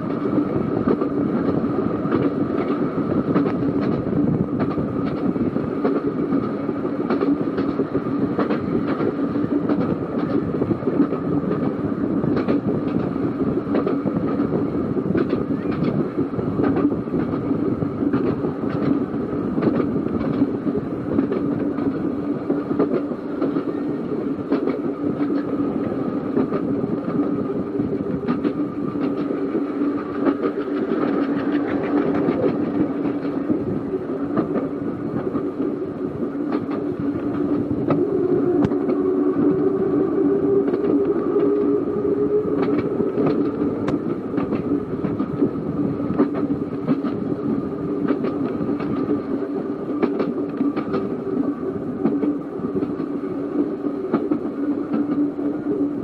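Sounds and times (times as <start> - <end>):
wheels clicking over rail joints: 0.0 - 39.0, 42.5 - 53.1
electric tram motor hum: 0.0 - 56.0.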